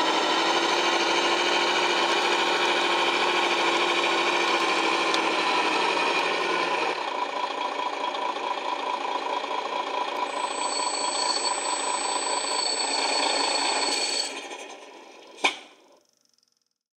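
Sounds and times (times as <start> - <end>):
electronic diesel engine sound: 0.0 - 16.8.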